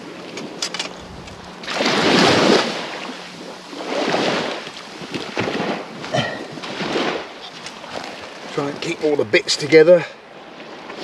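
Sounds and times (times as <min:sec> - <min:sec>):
small waves washing up beach: 0:00.0 - 0:11.0.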